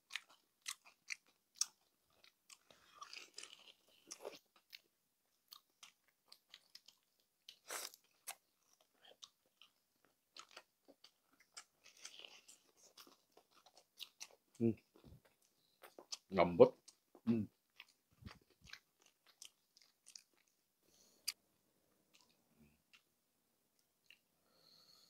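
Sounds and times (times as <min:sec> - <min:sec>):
crispy food crunching: 0:00.0 - 0:20.6.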